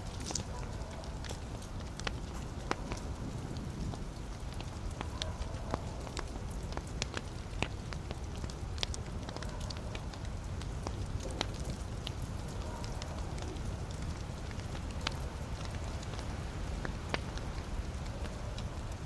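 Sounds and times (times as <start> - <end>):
fire flames hissing and rumbling: 0.0 - 19.0
logs crackling and popping: 0.0 - 19.0.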